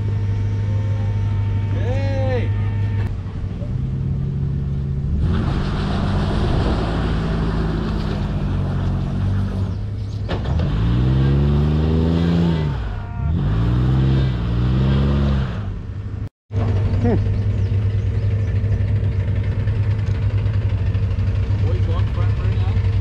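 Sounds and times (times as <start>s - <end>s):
vehicle engine revving: 0.0s - 23.0s.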